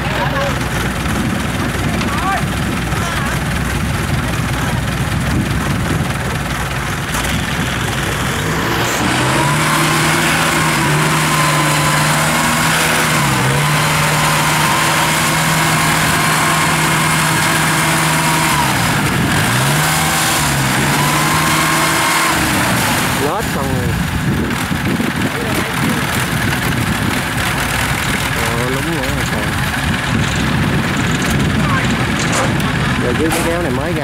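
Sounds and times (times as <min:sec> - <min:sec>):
small diesel engine under load: 0:00.0 - 0:34.0.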